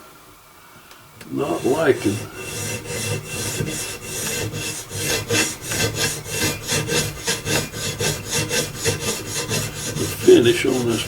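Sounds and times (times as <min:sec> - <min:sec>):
metal file rasping on metal: 0:01.2 - 0:11.0.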